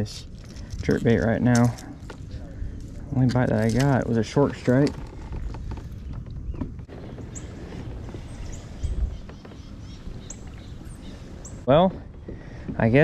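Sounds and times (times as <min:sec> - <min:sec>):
wind rumble on microphone: 0:00.0 - 0:13.0
birds chirping: 0:01.9 - 0:13.0.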